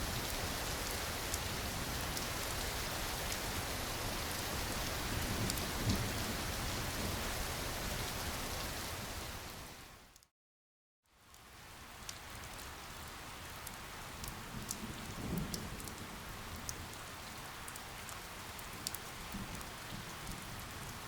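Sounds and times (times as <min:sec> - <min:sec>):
steady rain: 0:00.0 - 0:10.2, 0:11.1 - 0:21.0.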